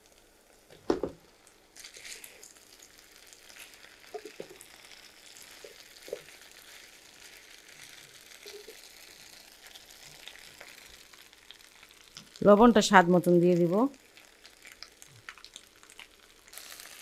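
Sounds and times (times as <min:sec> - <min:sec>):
faint sizzling of frying potatoes: 0:00.0 - 0:17.0.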